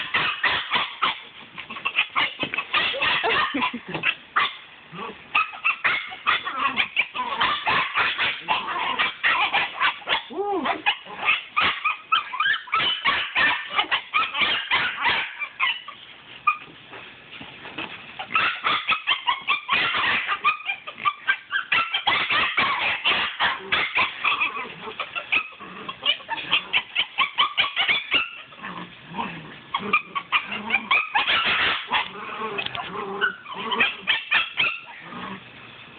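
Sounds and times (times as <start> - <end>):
puppy yipping: 0.0 - 4.6, 5.4 - 16.7, 18.2 - 28.6, 29.7 - 35.0.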